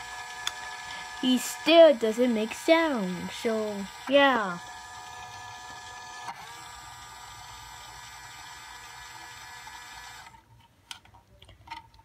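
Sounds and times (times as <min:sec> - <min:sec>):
small electric motor whirring: 0:00.0 - 0:10.4.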